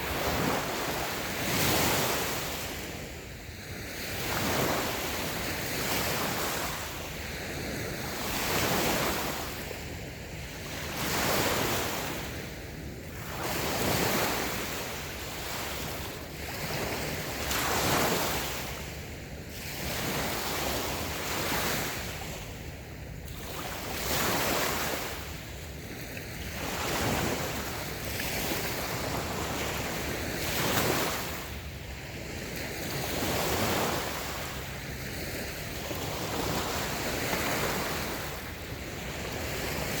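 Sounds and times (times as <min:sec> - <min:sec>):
small waves washing on sand: 0:00.0 - 0:40.0.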